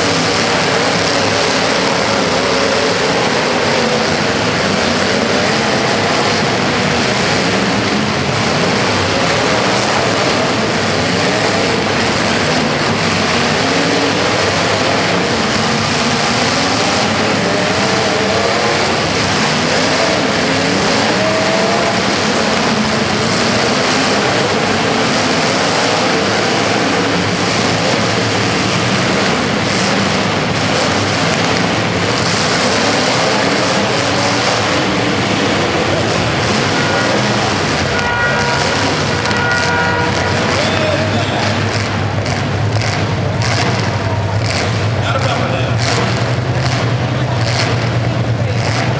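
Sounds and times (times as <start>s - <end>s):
racing engines running: 0.0s - 48.9s.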